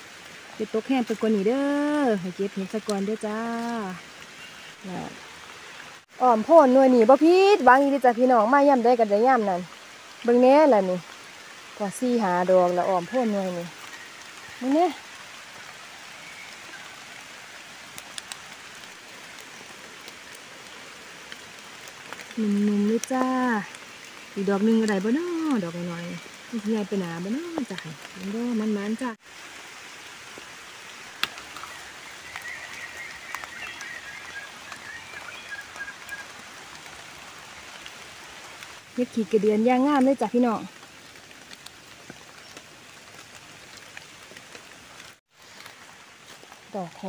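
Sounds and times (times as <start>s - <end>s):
rain falling on leaves: 0.0s - 47.0s.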